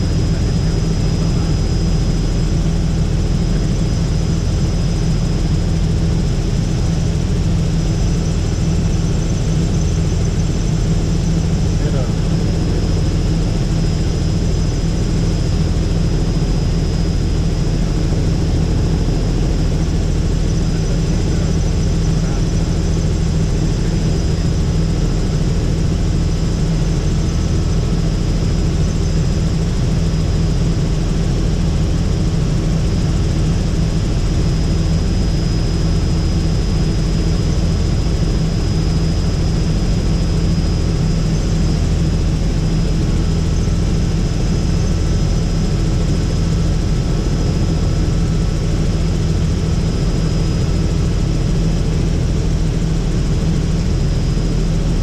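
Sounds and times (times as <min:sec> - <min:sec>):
helicopter engine and rotors drone: 0:00.0 - 0:55.0.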